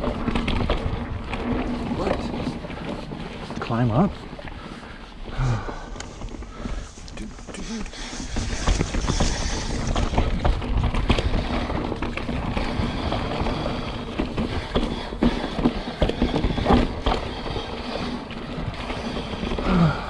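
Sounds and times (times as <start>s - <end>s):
bike rattling over bumps: 0.0s - 20.0s
bike tyres on dirt: 0.0s - 20.0s.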